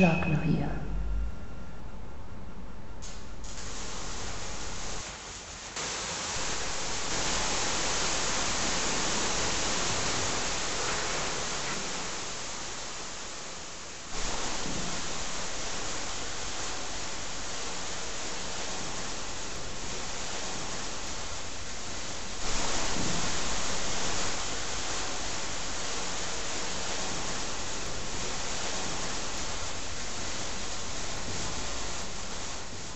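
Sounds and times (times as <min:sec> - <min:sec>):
steady hissing noise: 0:00.0 - 0:32.9.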